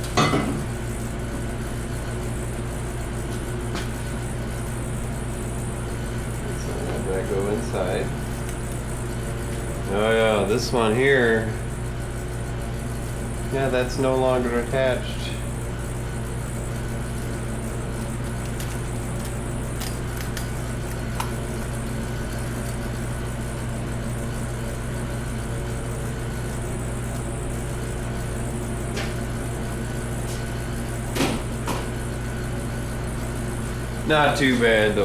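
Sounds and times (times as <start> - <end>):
low hum of shop machinery: 0.0 - 35.0.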